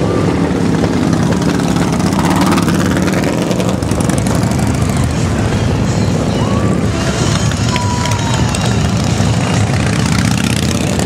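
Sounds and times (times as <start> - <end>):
motorcycle engines rumbling: 0.0 - 11.0
motorcycle revving: 0.0 - 11.0.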